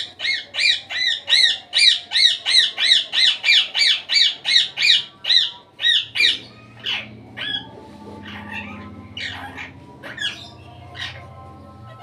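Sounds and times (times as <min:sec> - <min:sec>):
parrot squawking: 0:00.0 - 0:12.0.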